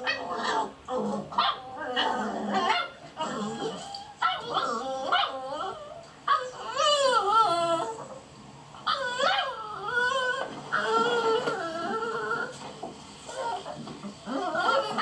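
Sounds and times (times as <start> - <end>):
puppies whining and whimpering: 0.0 - 15.0.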